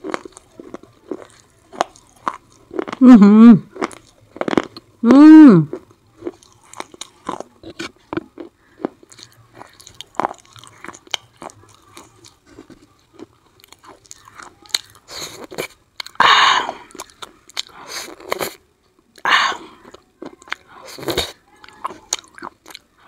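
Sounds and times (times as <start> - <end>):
crunching and chewing: 0.0 - 5.0, 5.6 - 23.0.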